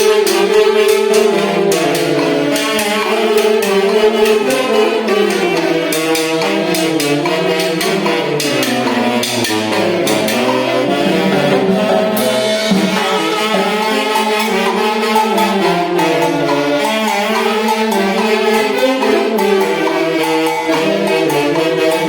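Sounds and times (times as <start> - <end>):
steady percussion: 0.0 - 22.0
wind instruments melody: 0.0 - 22.0.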